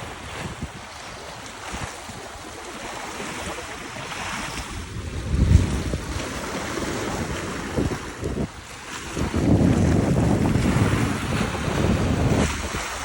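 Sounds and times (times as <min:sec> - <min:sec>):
lake water lapping: 0:00.0 - 0:13.0
wind buffeting microphone: 0:00.0 - 0:13.0.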